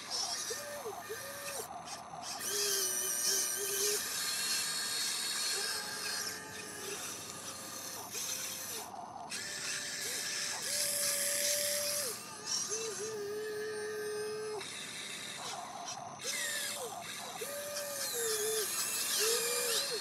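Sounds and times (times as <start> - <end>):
toy excavator motors whining: 0.0 - 20.0.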